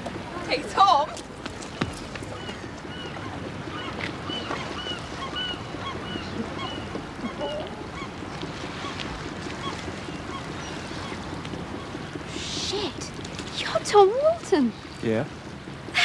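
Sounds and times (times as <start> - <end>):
wind: 0.0 - 16.0
gulls calling: 0.4 - 16.0.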